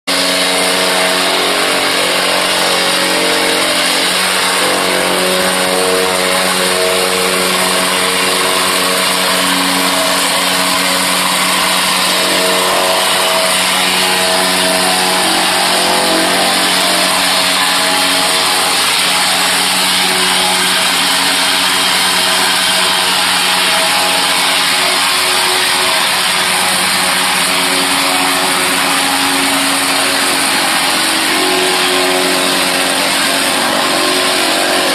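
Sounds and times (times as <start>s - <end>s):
plate compactor running: 0.1s - 34.9s.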